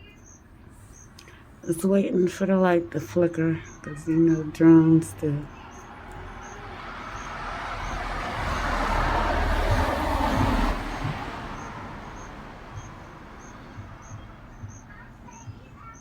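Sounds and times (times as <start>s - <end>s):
vehicle passing by: 2.4s - 15.5s.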